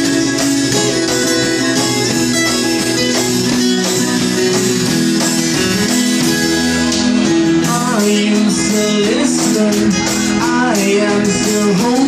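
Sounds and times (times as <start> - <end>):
acoustic guitar: 0.0 - 12.0
drums and cymbals: 0.0 - 12.0.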